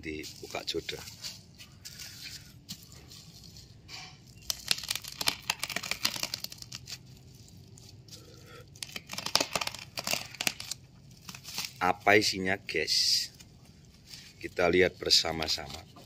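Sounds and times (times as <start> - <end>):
plastic film crinkling and tearing: 0.0 - 16.0.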